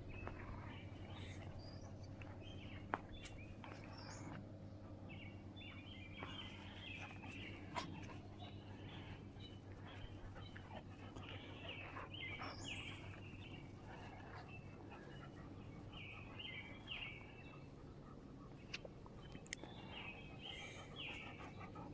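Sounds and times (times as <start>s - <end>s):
low outdoor hum: 0.0s - 21.9s
songbird singing: 0.0s - 21.9s.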